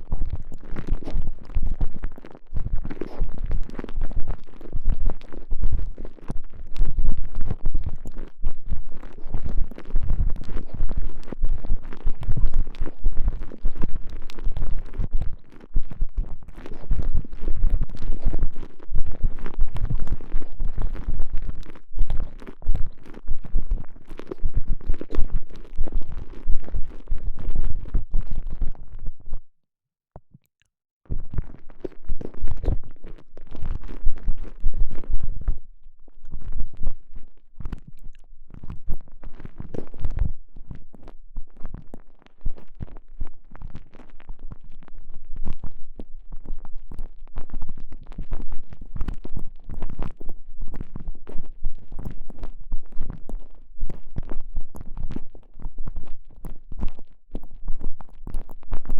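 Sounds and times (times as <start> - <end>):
muffled squishing and rubbing: 0.0 - 29.0, 31.1 - 58.7.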